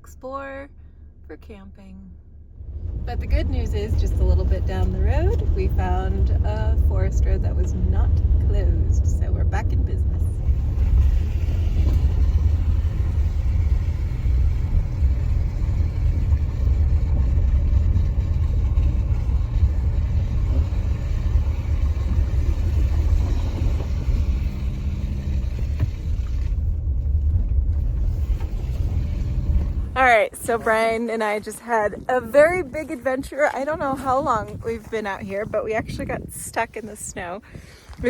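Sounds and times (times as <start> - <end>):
car engine and tyres rumble: 0.0 - 38.0.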